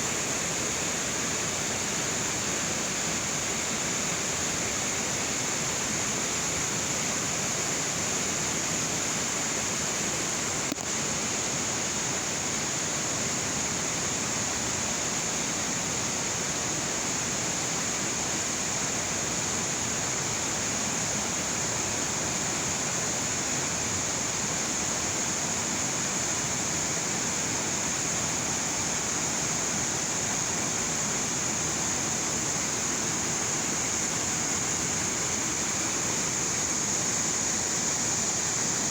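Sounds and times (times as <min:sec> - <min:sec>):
high-pitched hiss: 0:00.0 - 0:38.9.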